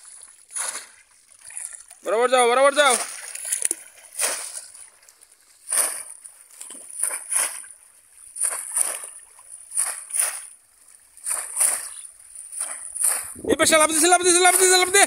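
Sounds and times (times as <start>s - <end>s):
fish traps splashing into water: 0.0s - 15.0s.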